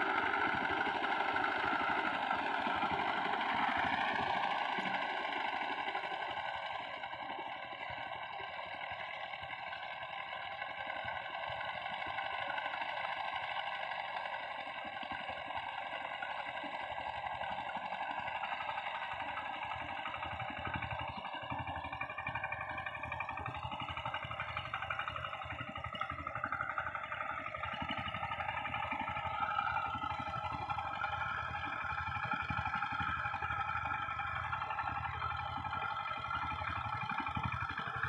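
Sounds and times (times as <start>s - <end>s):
power tiller engines pulsing: 0.0s - 38.0s.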